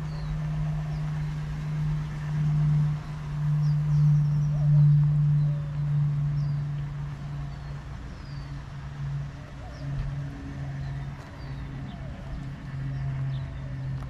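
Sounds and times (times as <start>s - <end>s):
low mechanical hum: 0.0s - 14.0s
small birds chirping: 0.0s - 14.0s.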